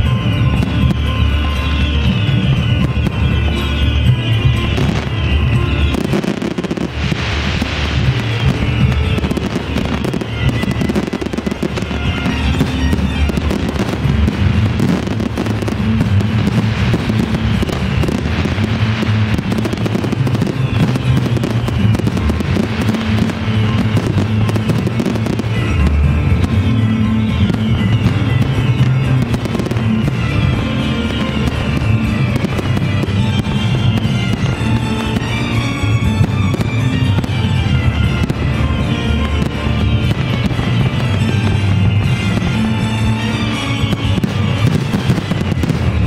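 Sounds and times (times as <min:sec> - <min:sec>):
fireworks bangs: 0:00.0 - 0:46.0
music: 0:00.0 - 0:46.0.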